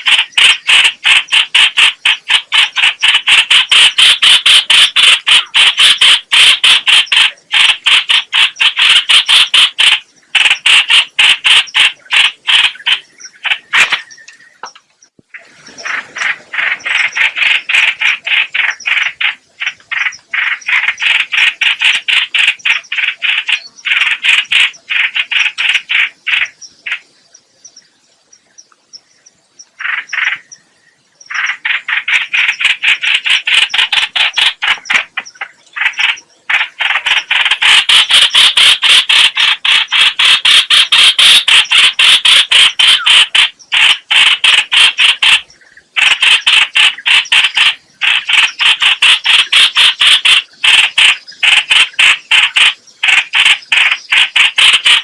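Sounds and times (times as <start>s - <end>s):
harsh repeated bird call: 0.0s - 14.8s, 15.4s - 27.1s, 29.8s - 30.6s, 31.3s - 55.0s.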